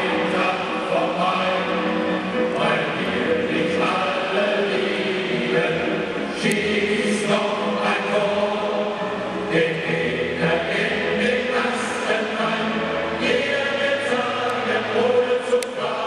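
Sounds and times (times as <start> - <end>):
stadium crowd singing a chant: 0.0 - 16.0.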